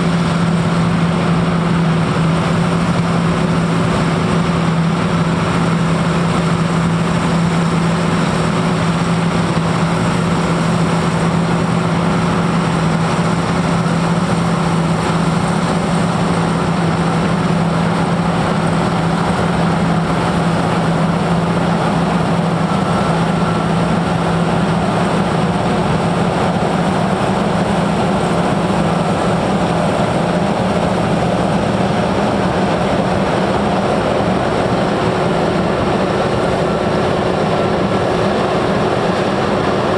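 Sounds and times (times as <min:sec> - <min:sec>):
combine harvester humming: 0:00.0 - 0:39.9.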